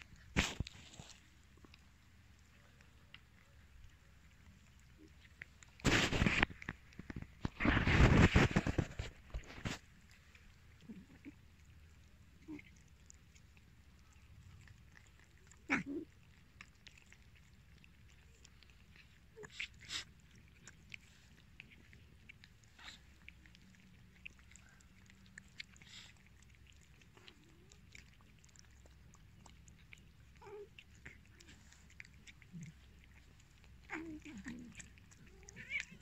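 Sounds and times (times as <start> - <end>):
cats chewing and lapping: 0.0 - 36.0.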